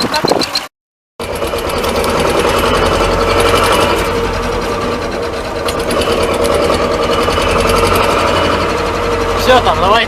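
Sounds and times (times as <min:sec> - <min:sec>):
tractor diesel engine clatter: 0:00.0 - 0:10.0.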